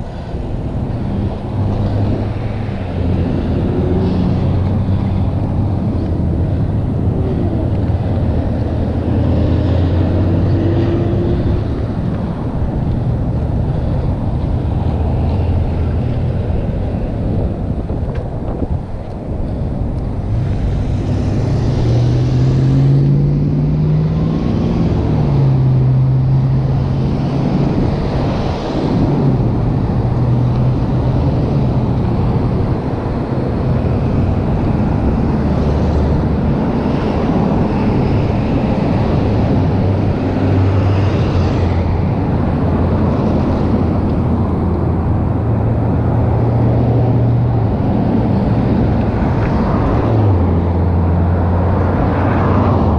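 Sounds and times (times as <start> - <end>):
wind and tyres rumbling: 0.0 - 52.9.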